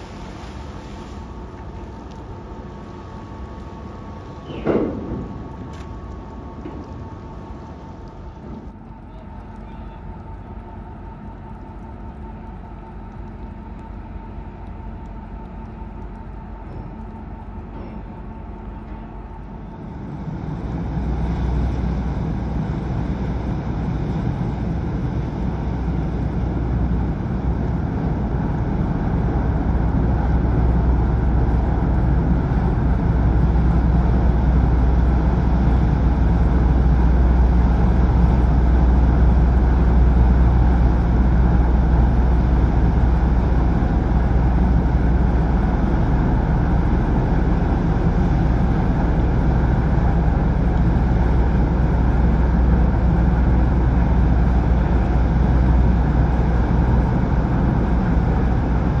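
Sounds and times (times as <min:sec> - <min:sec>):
ship engine deep rumble: 0:00.0 - 0:59.0.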